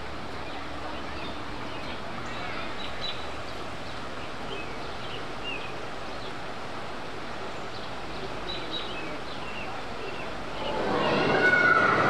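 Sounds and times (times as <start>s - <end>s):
birds chirping: 0.0s - 12.0s
creek water rushing over rocks: 0.0s - 12.0s.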